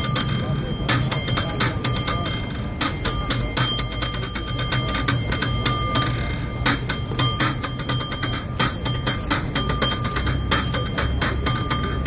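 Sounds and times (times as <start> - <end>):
cable car bell clanging: 0.0 - 12.0.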